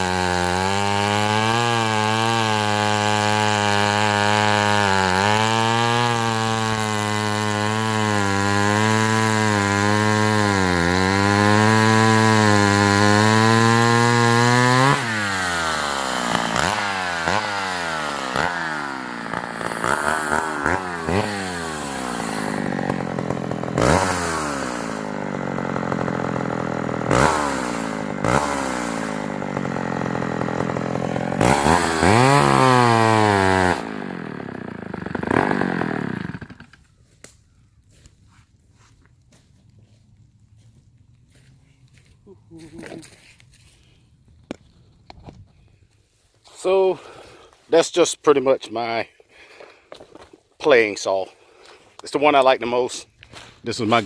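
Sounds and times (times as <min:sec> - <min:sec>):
chainsaw cutting wood: 0:00.0 - 0:38.1, 0:46.4 - 0:54.0.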